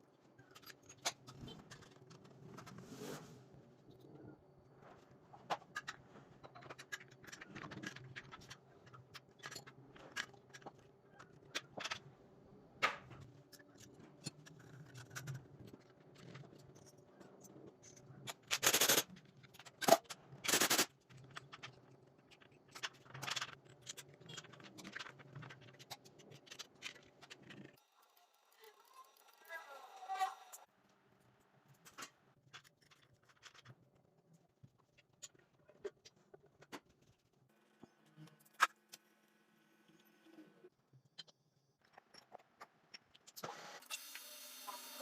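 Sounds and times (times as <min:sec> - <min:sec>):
clicks and light scrapes: 0:00.2 - 0:27.8, 0:30.5 - 0:39.1, 0:41.0 - 0:43.5.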